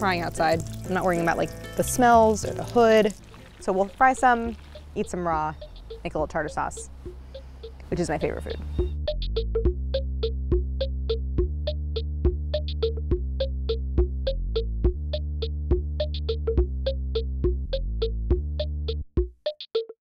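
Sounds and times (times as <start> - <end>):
plucked notes: 0.0 - 18.8
low held chords: 0.0 - 19.0.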